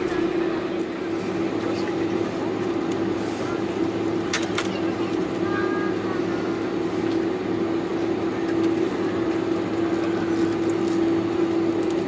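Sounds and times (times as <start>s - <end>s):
airplane cabin engine hiss: 0.0s - 12.0s
mid-pitched hum: 0.0s - 12.0s.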